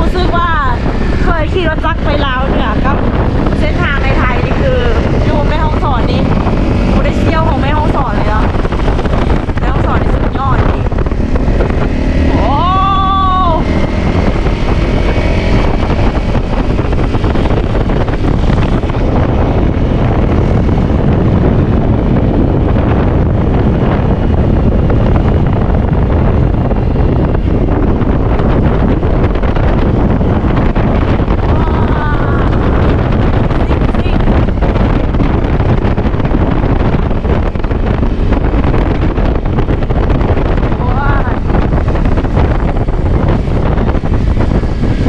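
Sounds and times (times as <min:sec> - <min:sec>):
dirt bike engine: 0:00.0 - 0:45.0
wind buffeting microphone: 0:00.0 - 0:45.0.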